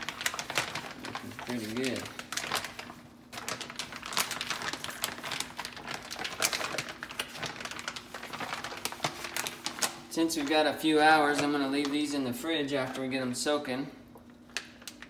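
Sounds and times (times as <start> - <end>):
plastic bag crinkling and rustling: 0.0 - 13.3.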